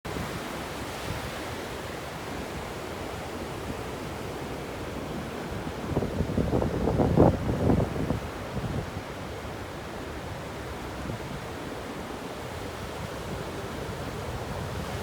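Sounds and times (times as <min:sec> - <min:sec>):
ocean surf washing on beach: 0:00.1 - 0:15.0.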